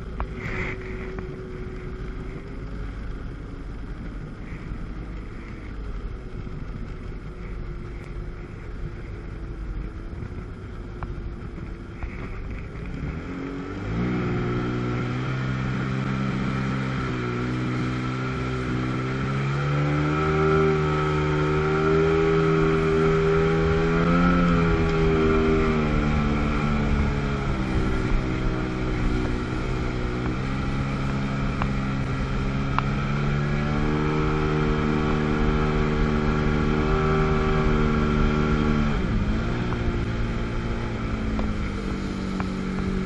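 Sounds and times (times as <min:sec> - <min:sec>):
jet ski engine revving: 0:00.0 - 0:43.0.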